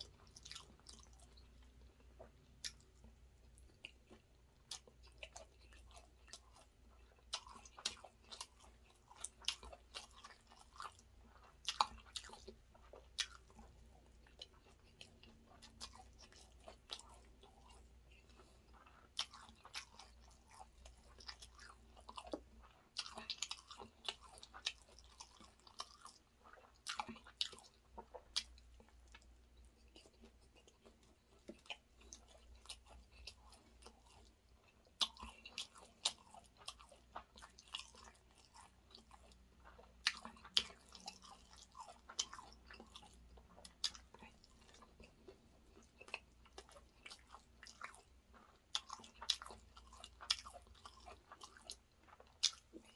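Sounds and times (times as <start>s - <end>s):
chewing rice: 0.0s - 52.9s.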